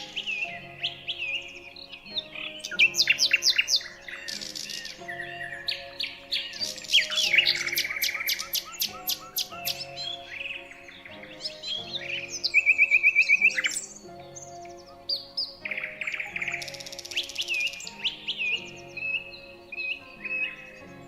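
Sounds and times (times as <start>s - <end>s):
bird trill: 0.0s - 21.0s
soft background music chords: 0.0s - 21.0s
songbirds chirping: 0.0s - 21.0s.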